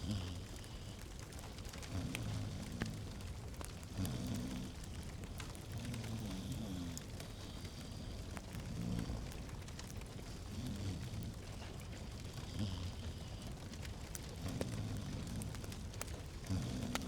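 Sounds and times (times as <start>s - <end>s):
low fire rumble: 0.0s - 17.0s
log fire crackling: 0.2s - 17.0s.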